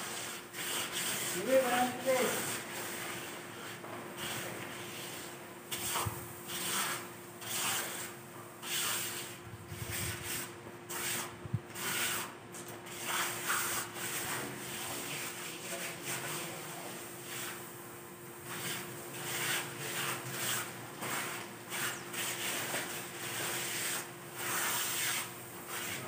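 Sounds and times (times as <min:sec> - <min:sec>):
hand tool scraping cement floor: 0:00.0 - 0:17.7, 0:18.4 - 0:26.0.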